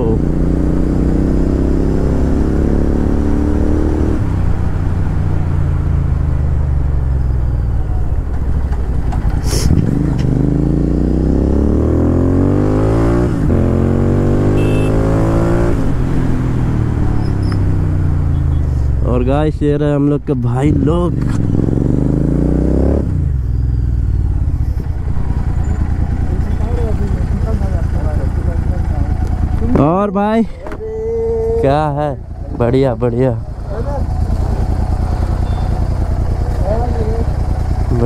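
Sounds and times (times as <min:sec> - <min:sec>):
motorcycle engine revving: 0:00.0 - 0:19.3, 0:20.4 - 0:30.0, 0:31.0 - 0:38.0.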